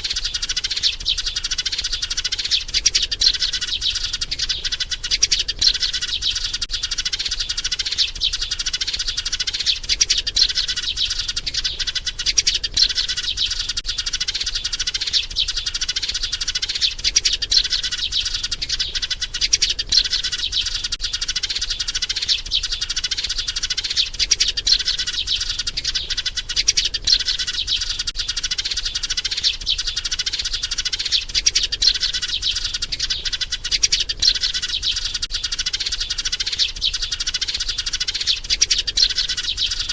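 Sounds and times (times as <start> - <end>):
sparrow chirping rapidly: 0.0 - 39.9.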